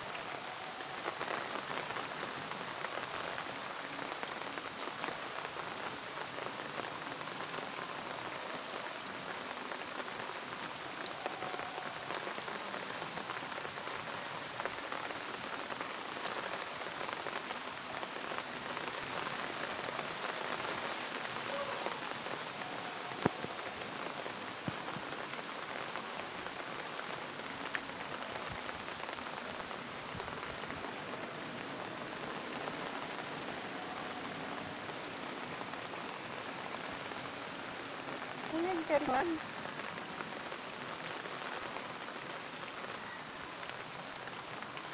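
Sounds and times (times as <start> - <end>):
rain on foliage and paving: 0.0 - 44.9.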